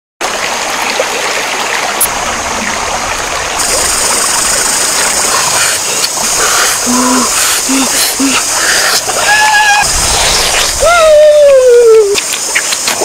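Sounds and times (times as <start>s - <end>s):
stream water running: 0.2s - 13.0s
high steady hiss: 1.9s - 13.0s.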